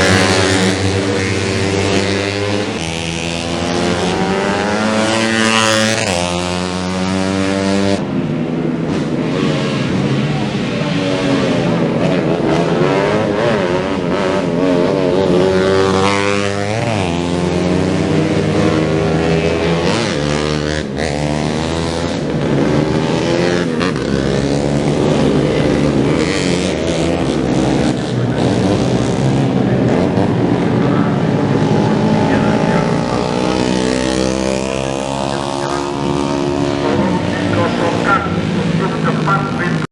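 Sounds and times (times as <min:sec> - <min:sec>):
motorcycles revving high: 0:00.0 - 0:39.9.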